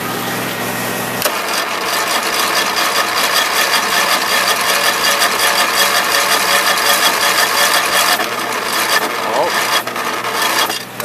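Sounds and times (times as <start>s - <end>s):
mower engine cranking: 1.2s - 11.0s.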